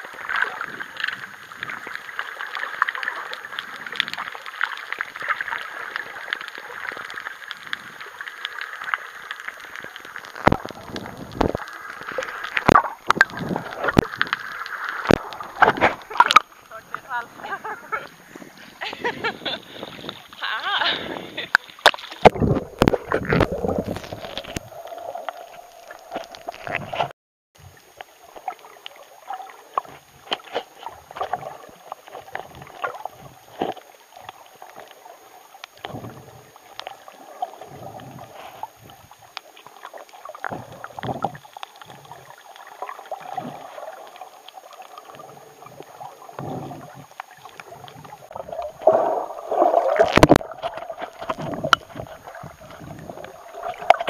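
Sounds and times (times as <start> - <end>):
water splashing: 0.0 - 27.1, 27.8 - 54.0
muffled underwater sloshing: 0.0 - 54.0.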